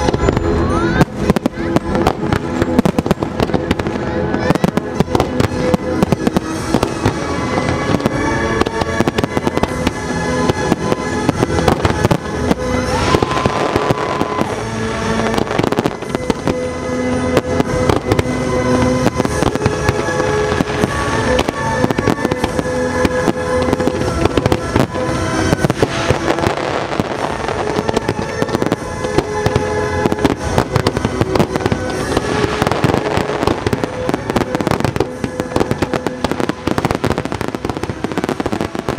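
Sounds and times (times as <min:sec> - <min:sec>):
fireworks bangs and crackling: 0:00.0 - 0:38.9
music playing: 0:00.0 - 0:38.9.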